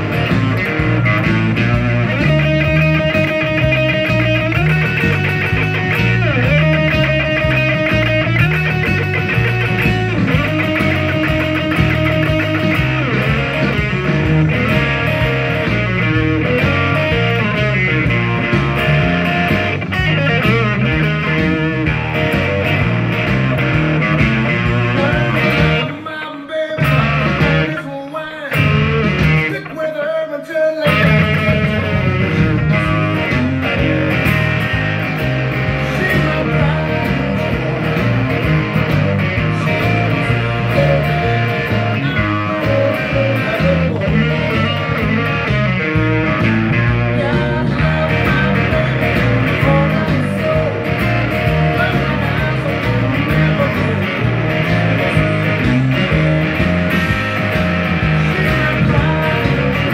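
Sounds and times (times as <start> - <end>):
electric guitar blues shuffle: 0.0 - 59.9.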